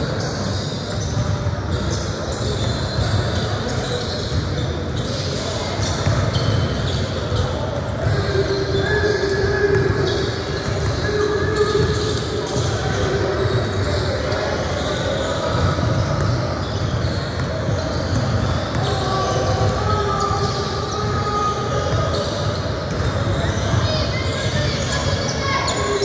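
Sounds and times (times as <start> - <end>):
voices in large room: 0.0 - 26.0.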